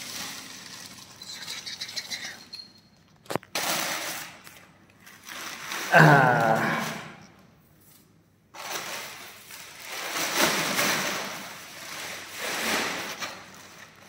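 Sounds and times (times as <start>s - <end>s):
plastic cover rustling: 0.0s - 2.3s, 3.1s - 7.1s, 7.8s - 14.0s.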